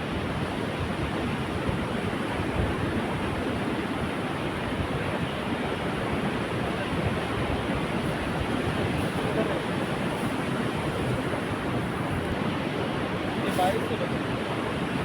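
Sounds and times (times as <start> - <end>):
sea surf: 0.0 - 15.0
strong wind: 0.0 - 15.0
wind buffeting microphone: 0.0 - 15.0.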